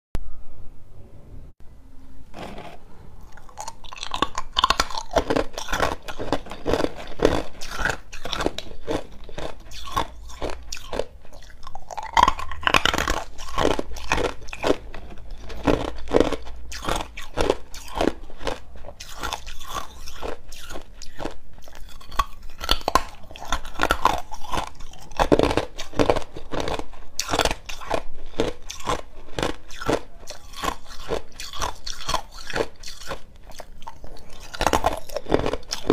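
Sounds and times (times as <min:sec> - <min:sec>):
ice crunching between teeth: 0:03.3 - 0:35.9.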